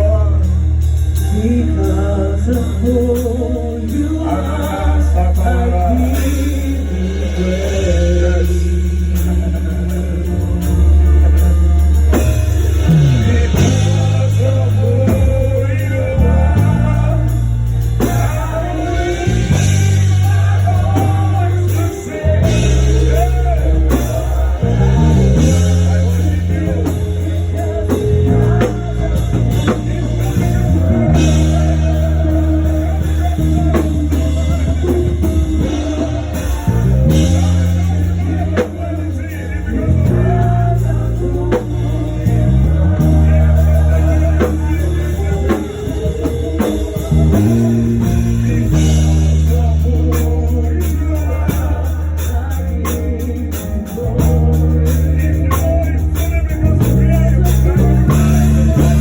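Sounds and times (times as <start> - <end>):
voices singing: 0.0 - 59.0
worship band playing: 0.0 - 59.0.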